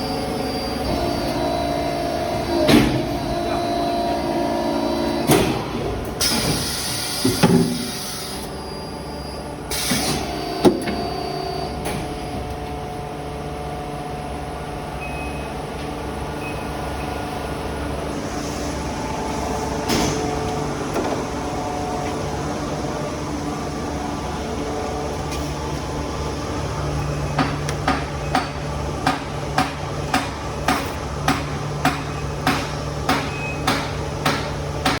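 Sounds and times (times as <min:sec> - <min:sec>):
forging machinery humming: 0:00.0 - 0:35.0.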